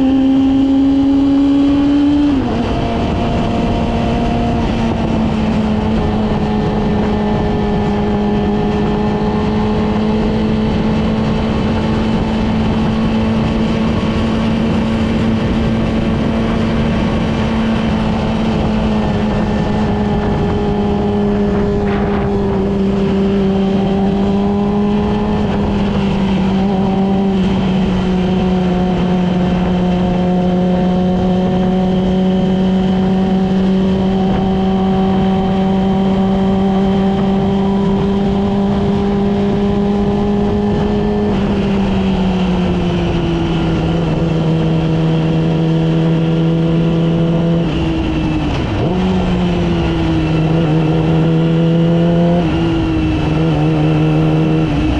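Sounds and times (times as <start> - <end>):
motorcycle engine cruising: 0.0 - 54.9
wind and road noise: 0.0 - 54.9.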